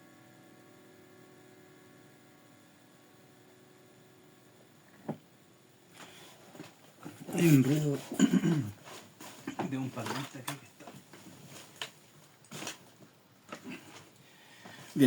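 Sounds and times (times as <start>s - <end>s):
loudspeaker electrical hum: 0.0s - 15.0s.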